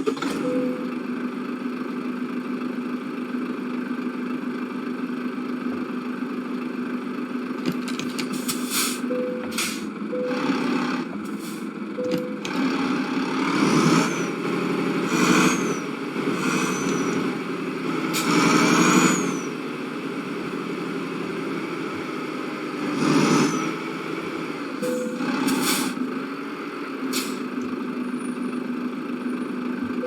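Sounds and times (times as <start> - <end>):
motor vehicle engine: 0.0 - 30.0.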